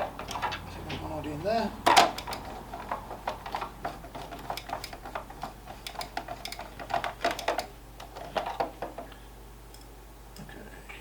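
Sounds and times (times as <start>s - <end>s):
hard plastic parts clicking: 0.0s - 9.9s.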